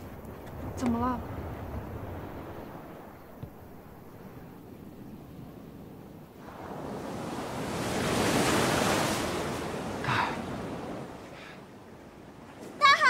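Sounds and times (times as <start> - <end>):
sea wave rushing in: 1.0 - 13.0.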